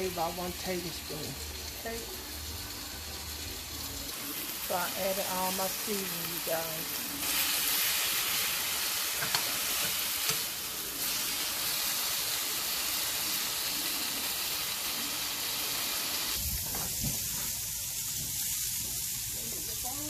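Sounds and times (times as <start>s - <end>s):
meat sizzling in a skillet: 0.0s - 20.0s.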